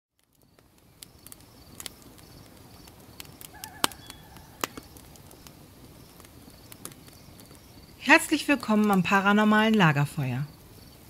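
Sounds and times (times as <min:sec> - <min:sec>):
campfire crackling and popping: 0:00.1 - 0:11.0.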